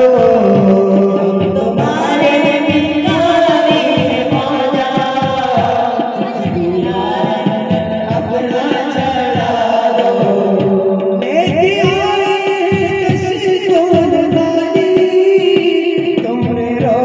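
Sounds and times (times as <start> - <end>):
men singing together: 0.0 - 17.0.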